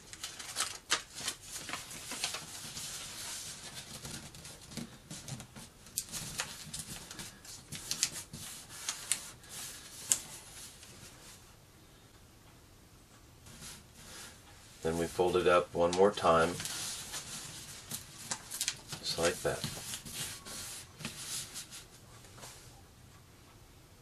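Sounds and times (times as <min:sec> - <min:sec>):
paper rustling and crinkling: 0:00.0 - 0:11.4, 0:13.5 - 0:22.6.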